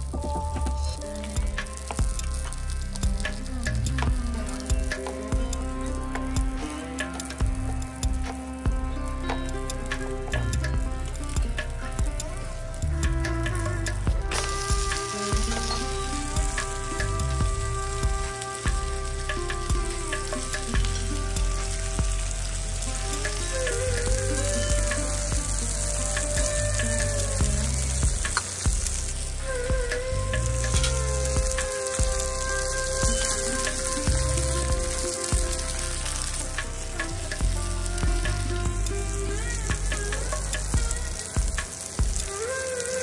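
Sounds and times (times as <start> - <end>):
flatbread sizzling in oil: 0.0 - 43.0.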